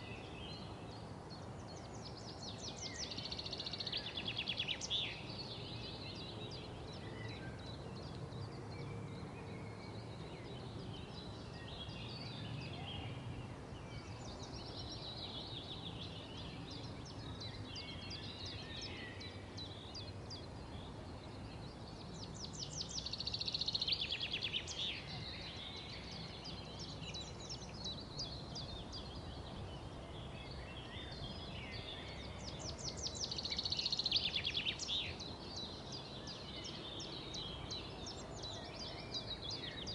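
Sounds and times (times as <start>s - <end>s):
low background noise: 0.0s - 39.9s
songbirds trilling: 0.0s - 39.9s.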